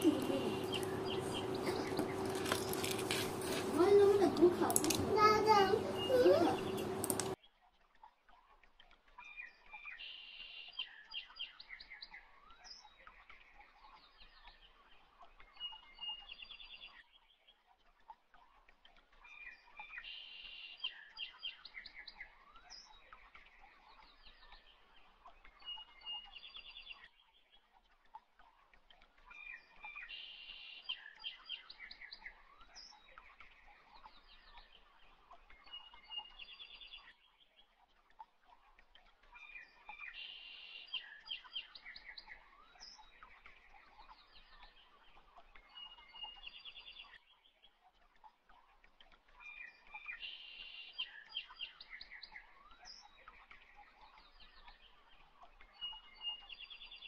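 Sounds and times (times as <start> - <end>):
small birds chirping trills: 0.0 - 57.0.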